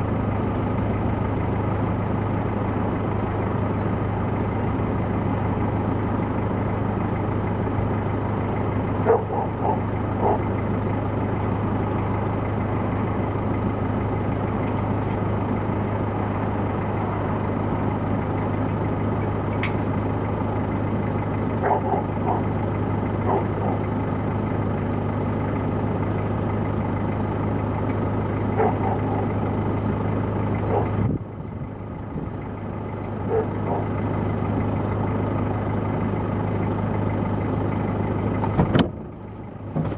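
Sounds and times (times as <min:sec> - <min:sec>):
loud motor humming: 0:07.3 - 0:39.9.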